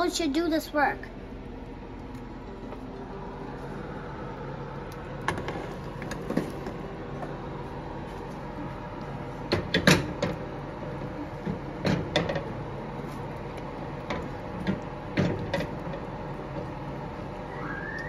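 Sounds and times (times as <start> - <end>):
kitchen hum: 0.0 - 18.0.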